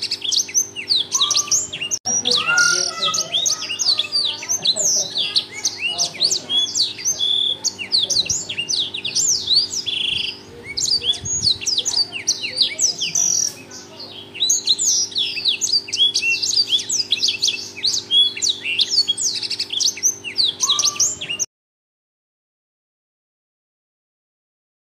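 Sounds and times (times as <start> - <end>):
canary singing chirps and trills: 0.0 - 21.5.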